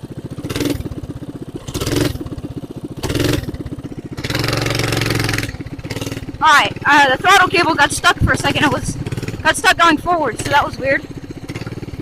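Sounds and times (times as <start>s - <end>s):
mini bike engine idling and revving: 0.0s - 12.0s.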